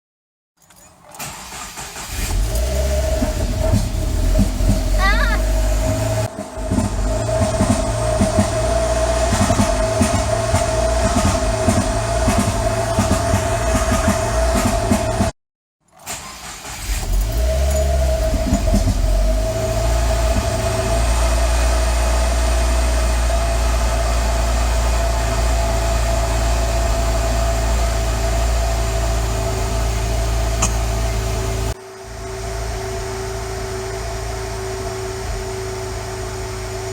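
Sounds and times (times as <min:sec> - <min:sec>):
car engine starting: 0:00.9 - 0:15.3, 0:15.9 - 0:36.9
car engine rough idle: 0:01.2 - 0:15.3, 0:16.8 - 0:36.9.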